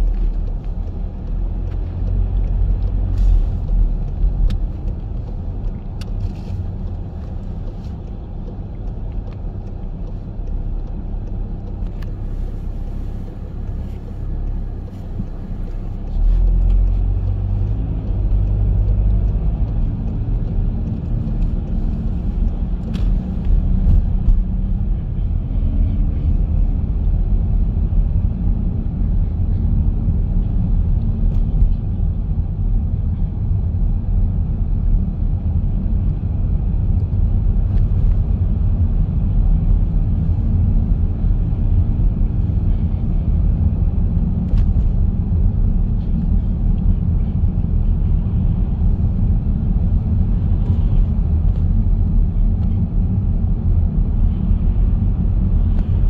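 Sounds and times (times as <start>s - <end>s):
car road rumble from inside: 0.0s - 56.0s.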